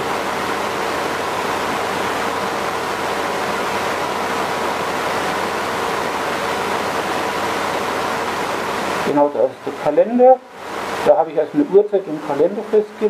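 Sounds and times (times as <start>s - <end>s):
loud steady hiss: 0.0s - 13.0s.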